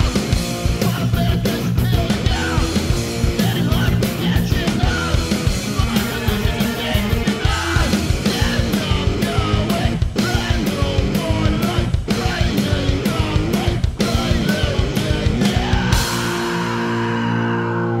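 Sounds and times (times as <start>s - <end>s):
hardcore punk music: 0.0s - 18.0s.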